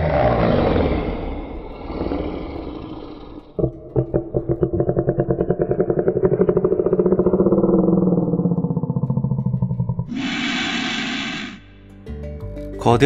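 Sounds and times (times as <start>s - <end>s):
low pulsing animal call: 0.0s - 11.9s.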